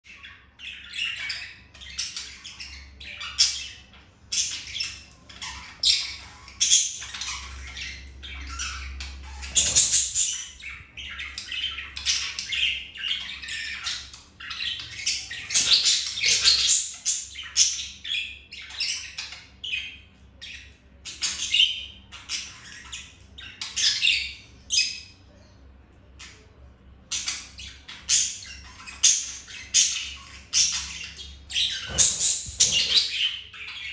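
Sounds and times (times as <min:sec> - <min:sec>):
budgerigars chattering and chirping: 0:00.1 - 0:25.3, 0:26.1 - 0:33.9.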